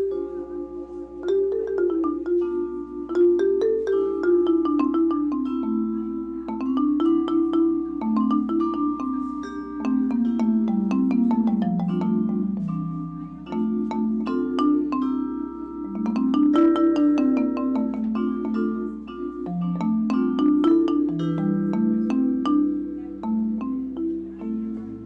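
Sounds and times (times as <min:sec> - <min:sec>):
marimba-like mallet music: 0:00.0 - 0:25.0.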